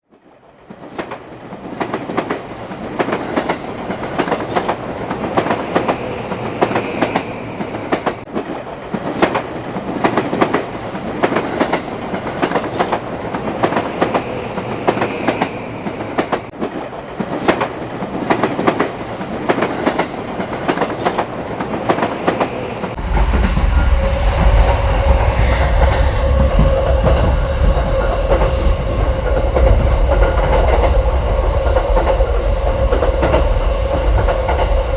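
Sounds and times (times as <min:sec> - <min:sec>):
train wheels clacking: 0:00.7 - 0:34.9.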